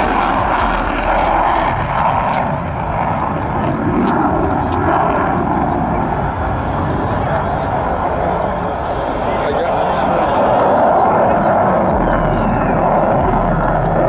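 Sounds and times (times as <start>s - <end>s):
jet engine afterburner roar: 0.0s - 14.0s.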